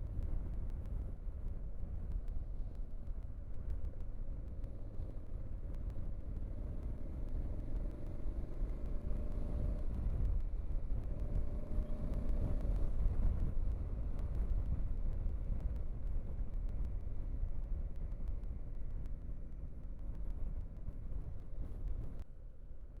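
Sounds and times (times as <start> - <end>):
vehicle rumble: 0.1 - 22.8.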